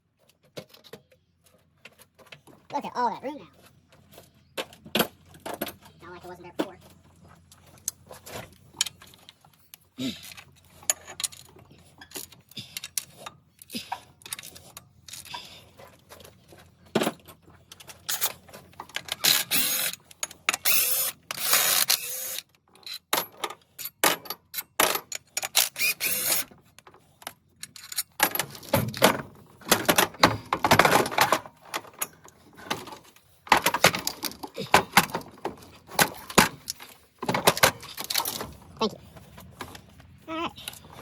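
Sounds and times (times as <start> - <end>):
tools and metal parts clinking: 3.6 - 41.0.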